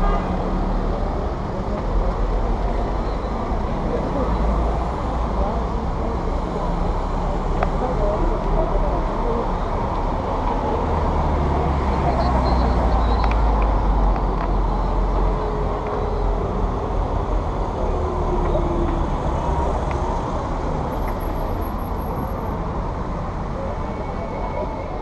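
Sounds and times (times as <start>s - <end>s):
vehicles passing slowly: 0.0s - 25.0s.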